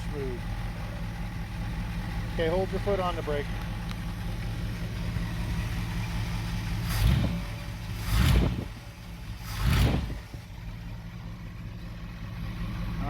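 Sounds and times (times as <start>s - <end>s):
engine idling: 0.0s - 13.0s
engine throttle blips: 0.0s - 13.0s.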